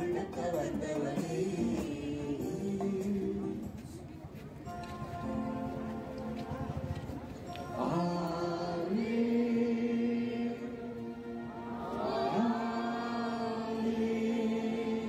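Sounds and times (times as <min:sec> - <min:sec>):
devotional chanting: 0:00.0 - 0:03.8, 0:05.2 - 0:15.0.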